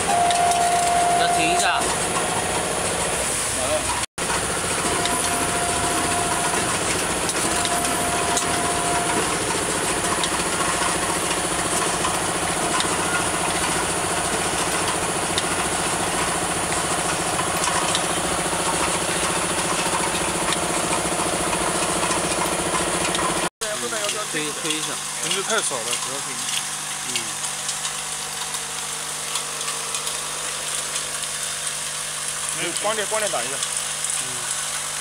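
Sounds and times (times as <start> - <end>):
machine humming: 0.0 - 35.0.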